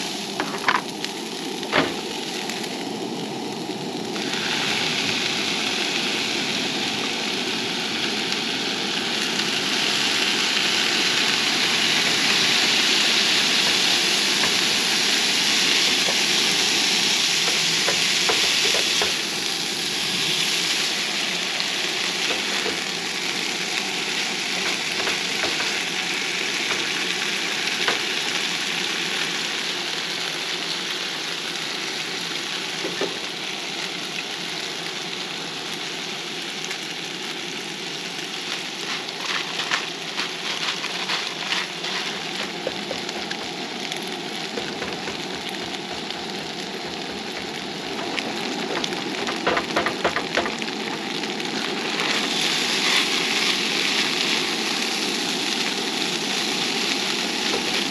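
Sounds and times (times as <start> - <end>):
rice sizzling in a skillet: 0.0 - 57.9.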